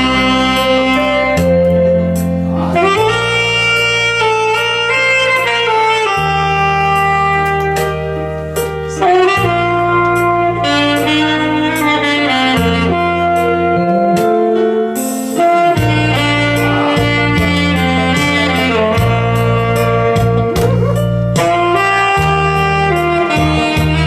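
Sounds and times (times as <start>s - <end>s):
alto saxophone melody: 0.0s - 24.0s
bass line: 0.0s - 24.0s.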